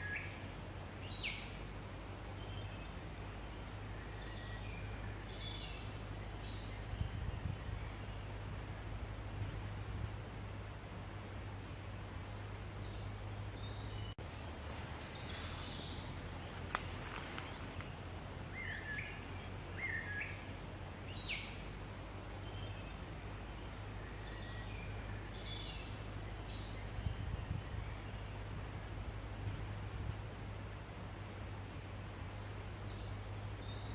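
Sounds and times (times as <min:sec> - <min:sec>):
background hiss: 0:00.0 - 0:33.9
low hum: 0:00.0 - 0:33.9
wild birds chirping and singing: 0:00.0 - 0:33.9.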